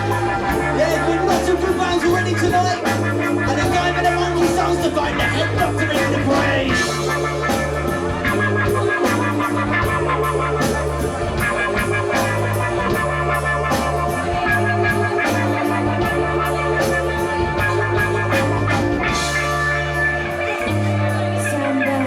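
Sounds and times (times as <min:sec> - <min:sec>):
steady drum beat: 0:00.0 - 0:21.6
live rock band playing: 0:00.0 - 0:22.0
repeating bass line: 0:00.0 - 0:22.0.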